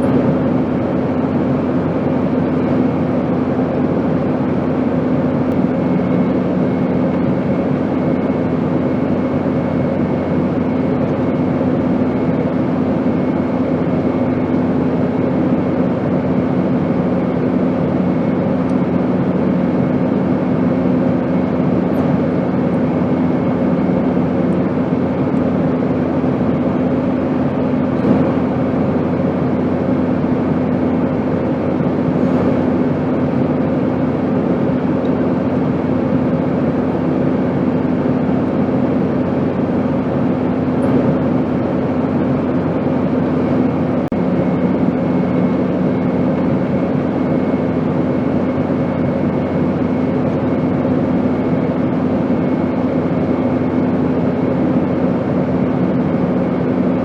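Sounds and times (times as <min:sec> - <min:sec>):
airplane drone in flight: 0:00.0 - 0:57.0.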